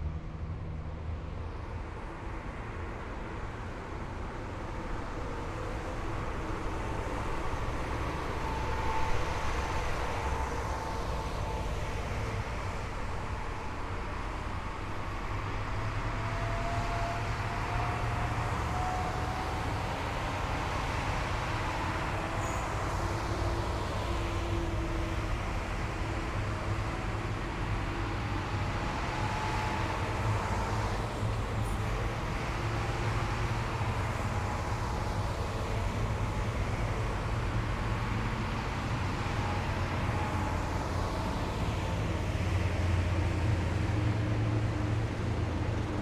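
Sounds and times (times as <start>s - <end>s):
heavy vehicles engine rumble: 0.0s - 46.0s
road noise: 0.0s - 46.0s.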